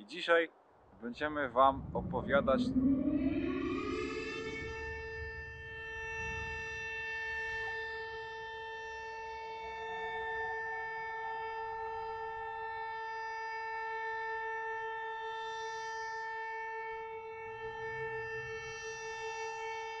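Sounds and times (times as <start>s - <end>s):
faint rising siren tone: 1.0s - 20.0s
air-raid siren: 1.4s - 20.0s.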